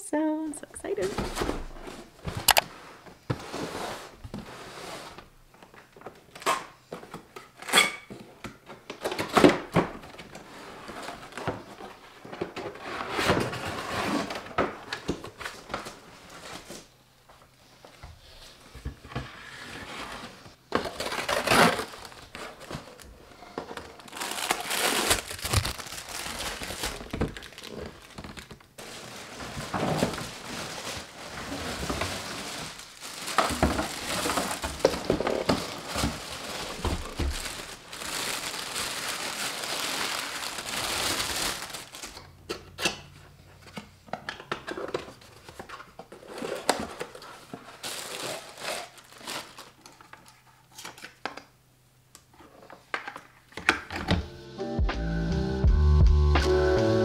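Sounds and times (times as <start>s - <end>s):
plastic and cardboard crinkling: 0.8s - 42.4s, 43.5s - 51.5s.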